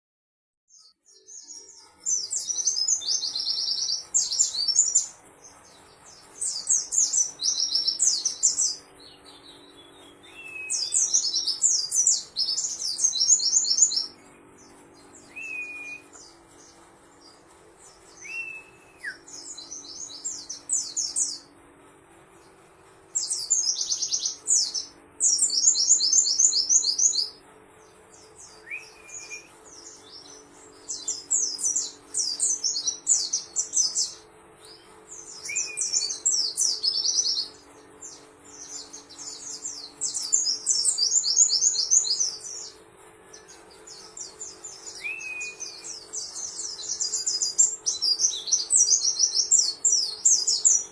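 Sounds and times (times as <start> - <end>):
bird twittering song: 0.7 - 21.6, 22.4 - 50.9.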